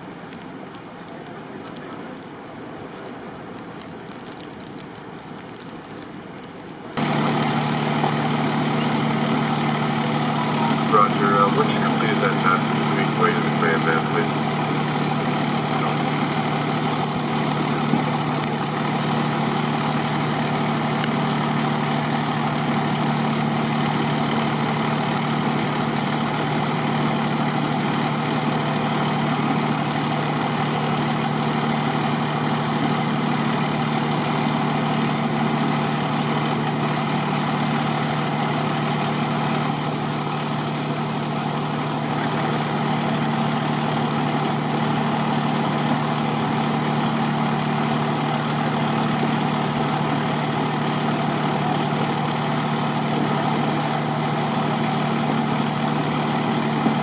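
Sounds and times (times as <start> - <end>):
fire truck diesel engine idling: 7.0 - 57.0.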